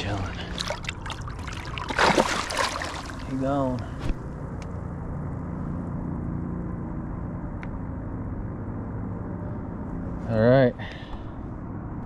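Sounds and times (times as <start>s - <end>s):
low motor hum: 0.0s - 10.5s.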